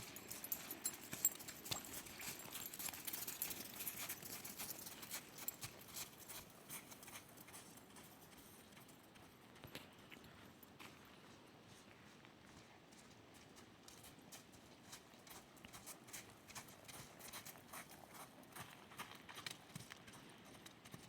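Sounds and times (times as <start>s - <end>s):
horse hoofbeats: 0.0s - 21.0s.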